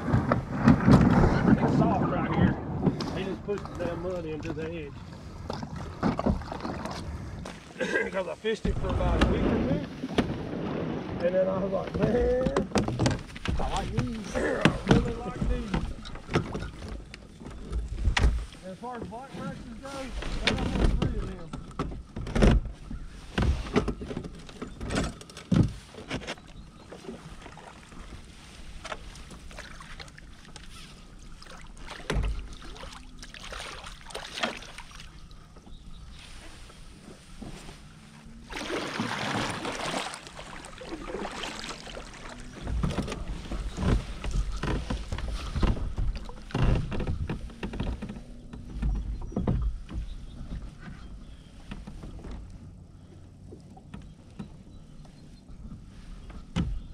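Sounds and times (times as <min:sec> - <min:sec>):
paddle splashing in water: 0:05.0 - 0:07.9, 0:08.6 - 0:11.2, 0:11.8 - 0:21.4, 0:25.5 - 0:56.9.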